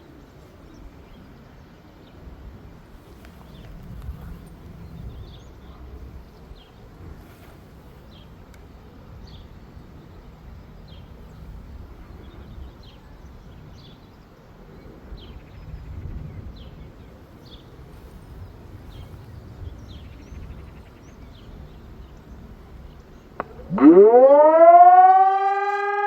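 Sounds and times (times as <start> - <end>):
small birds chirping: 0.0 - 23.8
low outdoor rumble: 0.0 - 24.5.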